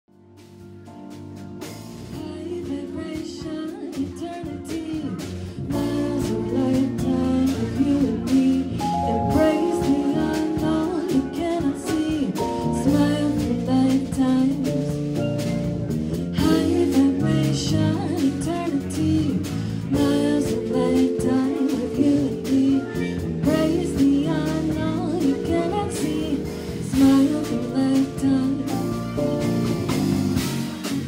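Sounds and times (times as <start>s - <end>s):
jazz with steel drums: 0.1s - 31.0s
person singing: 2.2s - 15.0s, 16.4s - 29.3s.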